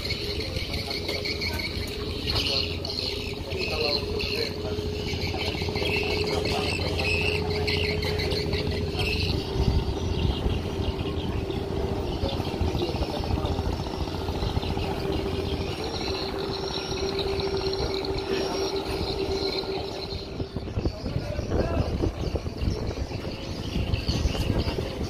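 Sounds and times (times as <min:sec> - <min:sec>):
speedboat engines droning: 0:00.0 - 0:25.0.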